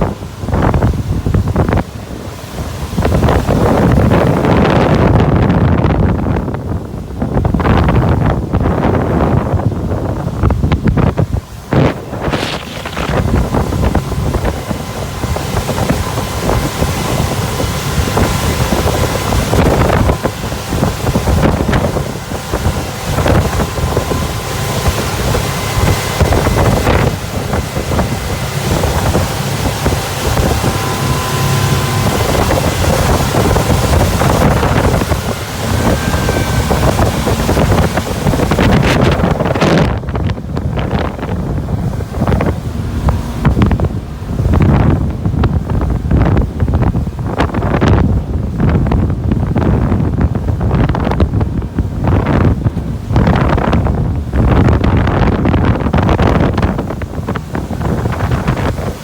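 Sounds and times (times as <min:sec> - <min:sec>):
boat engine running: 0:00.0 - 0:59.0
water rushing past hull: 0:00.0 - 0:59.0
wind buffeting microphone: 0:00.0 - 0:59.0.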